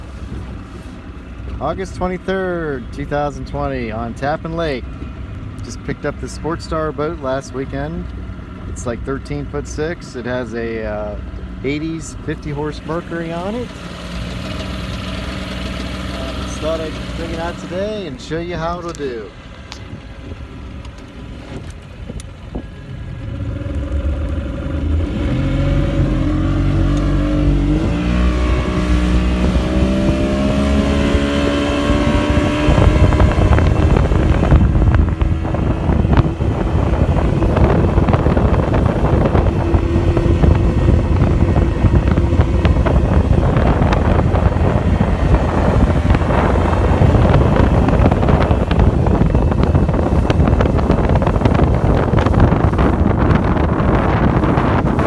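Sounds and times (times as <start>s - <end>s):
wind noise: 0.0s - 4.3s, 4.9s - 55.0s
outboard motor throttling up: 0.0s - 55.0s.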